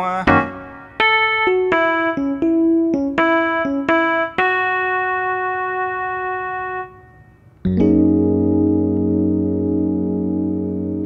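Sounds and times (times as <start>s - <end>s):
digital piano notes: 0.0s - 11.0s.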